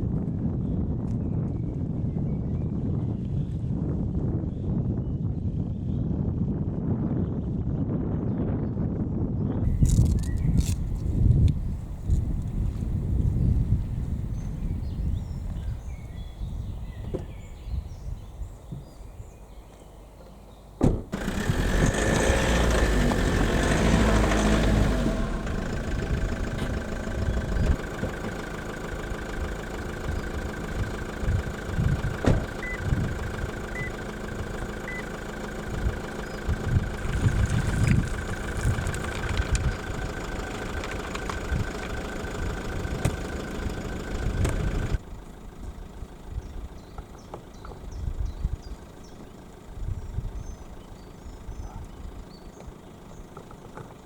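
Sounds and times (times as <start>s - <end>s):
car engine starting and running: 9.6s - 54.0s.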